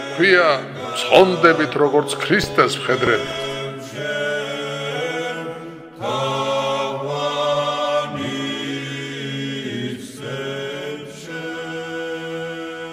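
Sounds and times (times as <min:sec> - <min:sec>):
choir chanting a cappella: 0:00.0 - 0:12.9.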